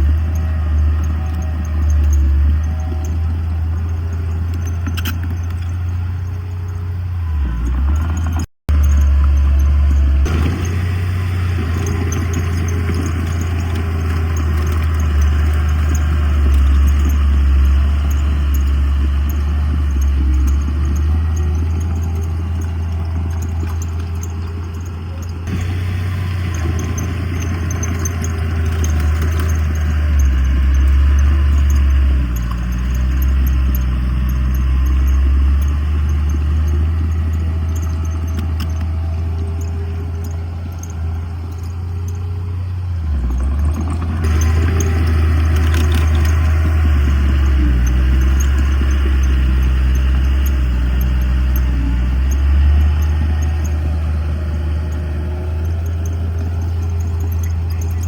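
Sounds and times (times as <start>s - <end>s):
diesel machinery engine rumble: 0.0s - 58.0s
machinery clatter: 0.0s - 58.0s.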